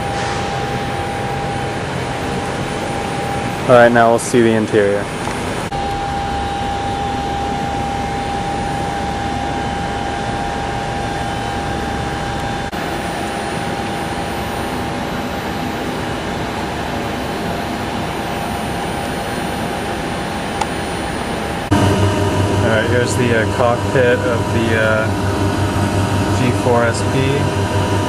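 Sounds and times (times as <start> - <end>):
aircraft turbine rushing: 0.0 - 28.0
high turbine whine: 0.0 - 28.0.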